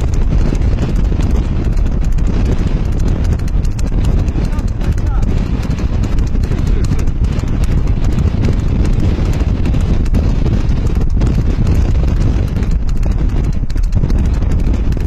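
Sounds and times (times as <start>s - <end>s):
horse hoofbeats: 0.0s - 15.0s
wind buffeting microphone: 0.0s - 15.0s.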